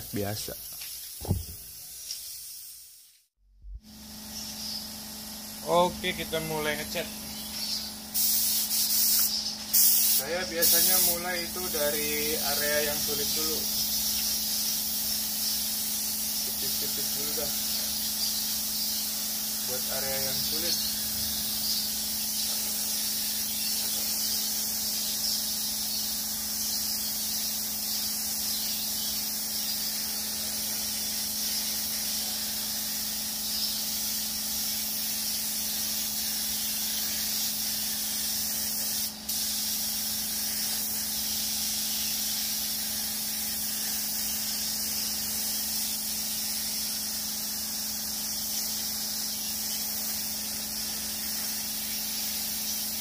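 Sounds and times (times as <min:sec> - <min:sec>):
spray gun hissing: 0:00.2 - 0:53.0.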